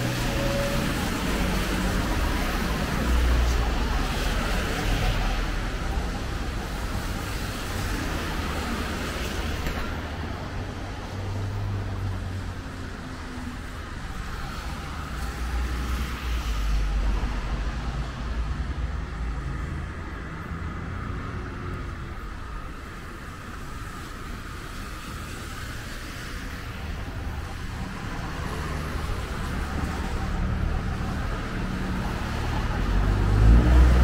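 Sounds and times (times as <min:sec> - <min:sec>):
vehicles passing on wet road: 0:00.0 - 0:34.0.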